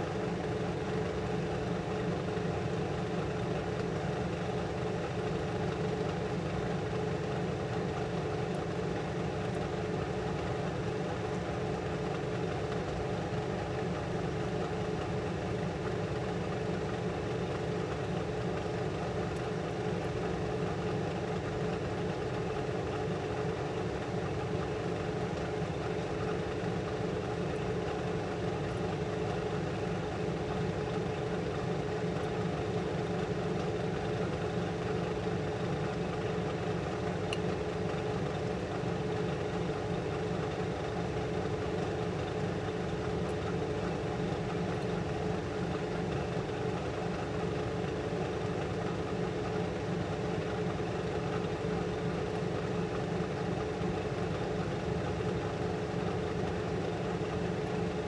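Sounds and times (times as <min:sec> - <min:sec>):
blower fan hum: 0:00.0 - 0:58.0.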